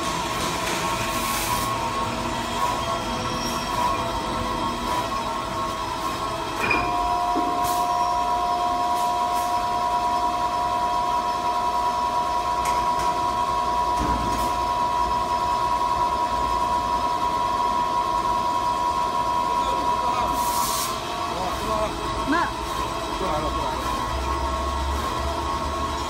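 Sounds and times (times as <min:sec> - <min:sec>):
cutting machine whine: 0:00.0 - 0:26.0.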